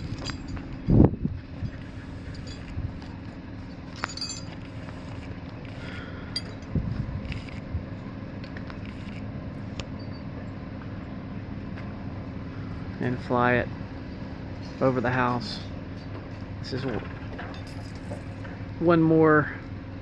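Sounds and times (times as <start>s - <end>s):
crane engine running: 0.0s - 20.0s.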